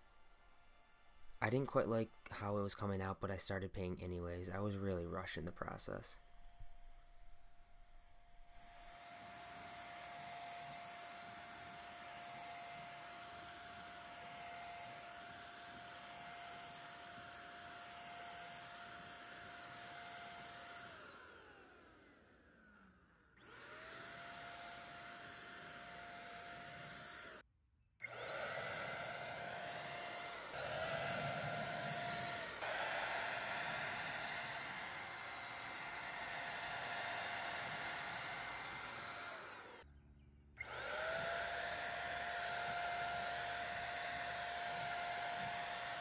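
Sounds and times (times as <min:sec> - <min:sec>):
paint spray gun motor whine: 0:00.0 - 0:02.5, 0:04.6 - 0:40.0, 0:40.6 - 0:46.0.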